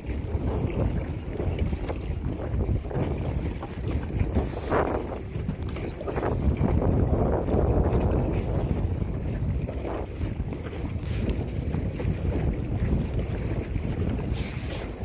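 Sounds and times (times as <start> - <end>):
water washing around kayak: 0.0 - 15.0
wind buffeting microphone: 0.0 - 15.0.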